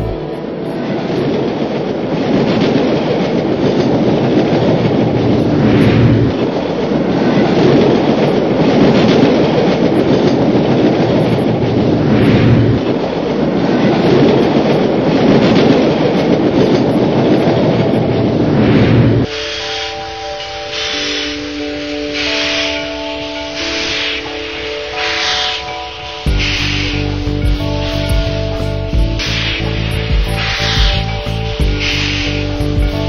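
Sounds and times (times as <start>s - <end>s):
train rumbling: 0.0s - 33.0s
wheels clattering on rails: 0.0s - 33.0s.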